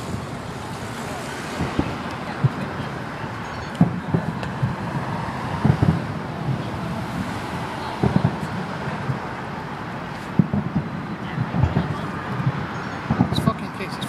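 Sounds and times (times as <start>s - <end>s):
road traffic: 0.0s - 14.0s
wind on microphone: 0.0s - 14.0s.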